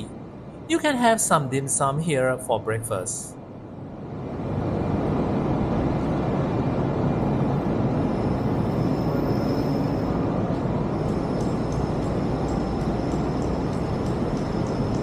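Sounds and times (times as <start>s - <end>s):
city street traffic drone: 0.0s - 15.0s.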